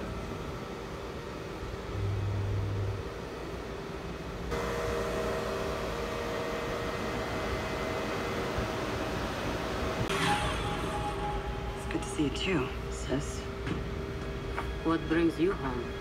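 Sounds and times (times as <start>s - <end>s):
low hum: 0.0s - 16.0s
projector cooling fans whirring: 0.0s - 16.0s.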